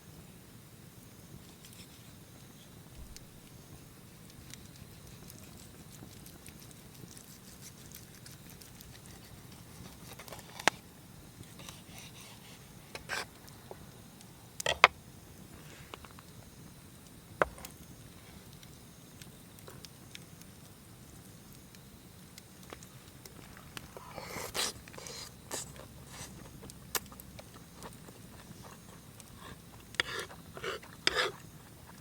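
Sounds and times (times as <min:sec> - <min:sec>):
wood fire crackling: 0:00.1 - 0:32.0.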